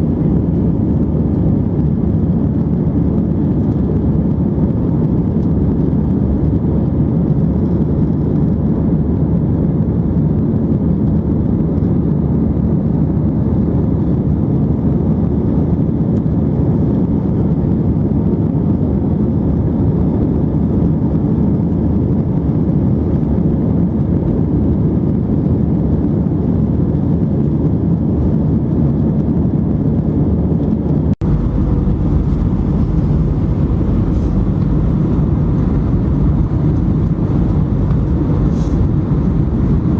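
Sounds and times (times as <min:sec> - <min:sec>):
jet engines and airflow: 0:00.0 - 0:39.9.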